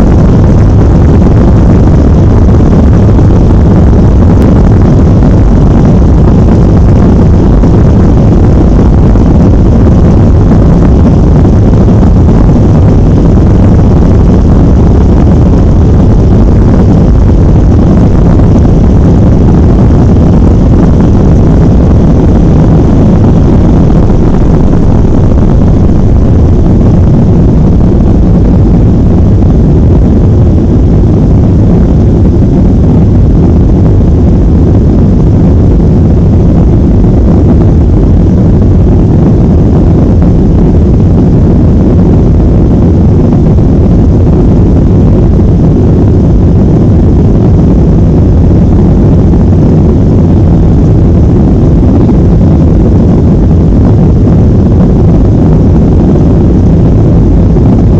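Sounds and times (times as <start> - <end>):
jet engines rumbling in cabin: 0.0 - 57.9.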